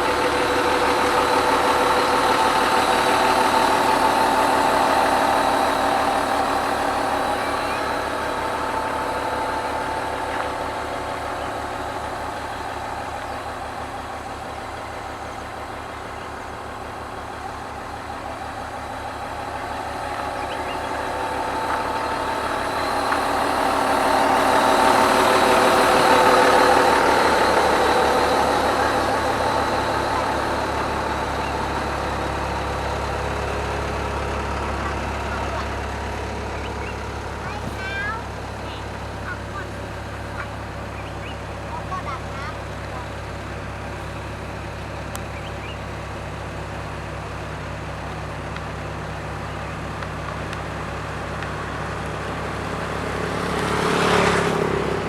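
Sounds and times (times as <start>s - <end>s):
road roller diesel engine running: 0.0s - 55.0s.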